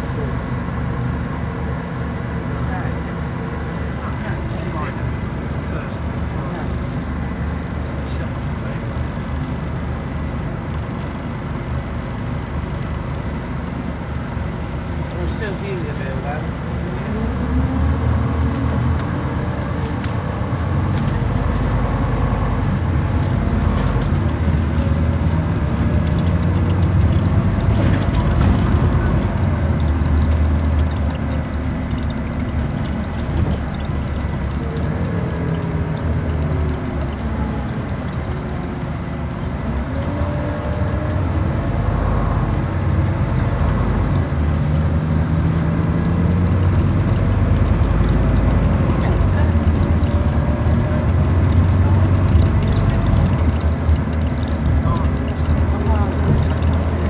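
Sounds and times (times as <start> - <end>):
bus diesel engine drone: 0.0 - 57.0
rising whine of accelerating bus: 0.0 - 57.0.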